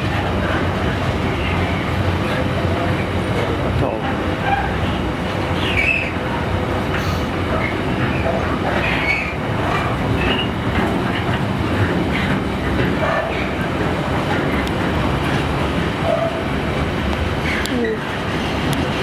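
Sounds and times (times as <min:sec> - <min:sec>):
train wheels clattering on rails: 0:00.0 - 0:19.0.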